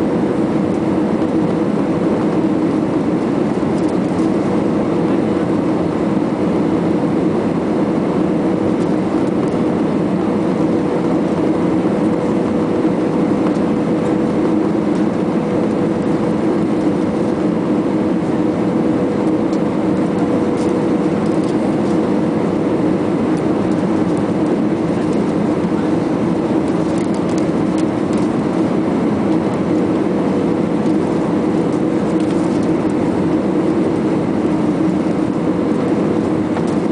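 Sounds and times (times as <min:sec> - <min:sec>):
jet engines and airflow rushing: 0:00.0 - 0:36.9
low hum: 0:00.0 - 0:36.9.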